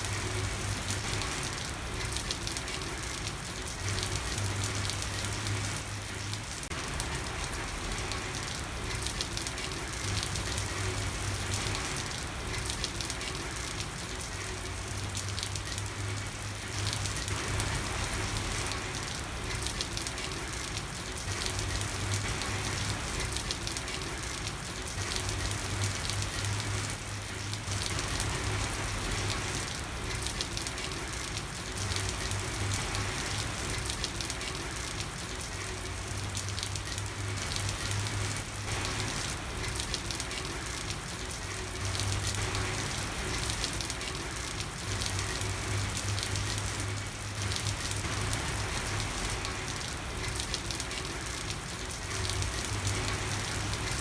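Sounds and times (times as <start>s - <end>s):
rain falling on a street: 0.0s - 54.0s.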